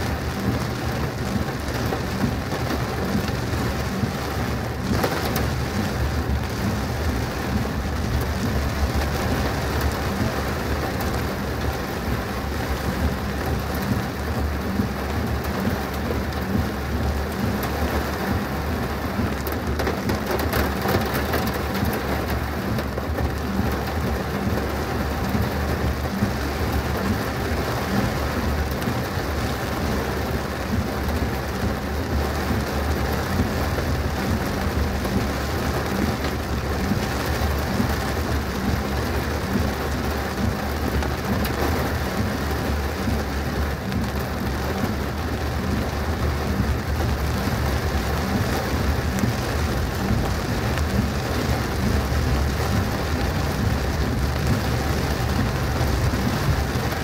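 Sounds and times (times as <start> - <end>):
heavy rain on a car: 0.0 - 57.0.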